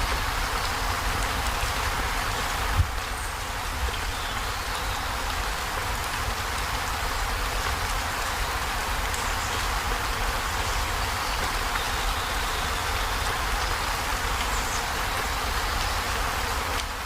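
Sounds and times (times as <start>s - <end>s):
heavy rain on a metal roof: 0.0s - 17.0s.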